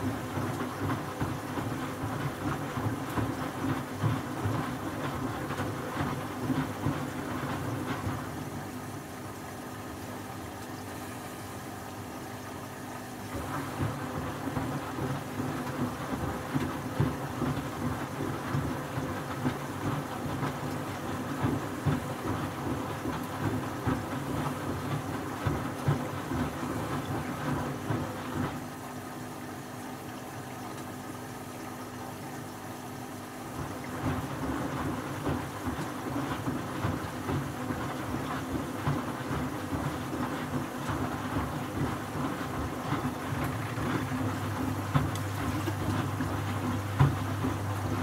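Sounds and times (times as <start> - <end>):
washing machine motor hum: 0.0 - 48.0
water sloshing in drum: 0.0 - 48.0.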